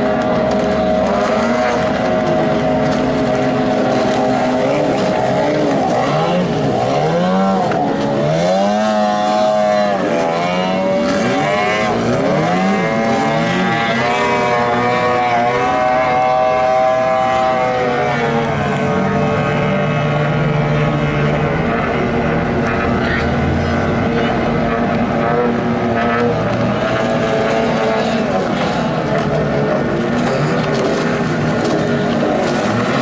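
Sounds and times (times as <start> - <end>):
racing boat engines: 0.0 - 33.0.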